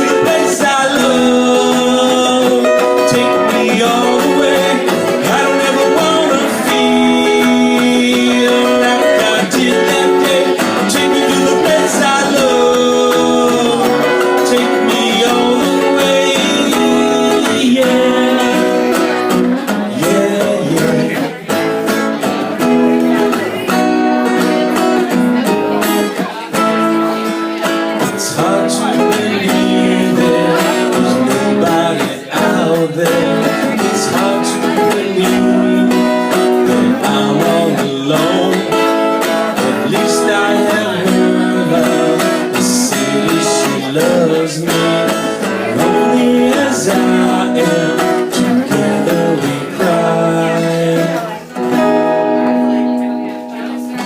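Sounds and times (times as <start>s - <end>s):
acoustic guitar strumming: 0.0s - 54.0s
person singing: 0.0s - 54.0s.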